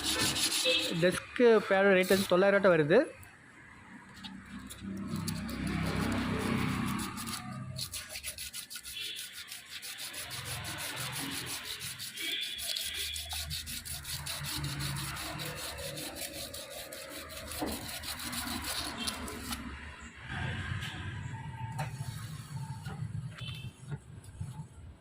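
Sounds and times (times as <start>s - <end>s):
emery paper rubbing brake disc: 0.0s - 1.3s, 1.9s - 2.4s, 4.2s - 19.7s, 21.9s - 24.8s.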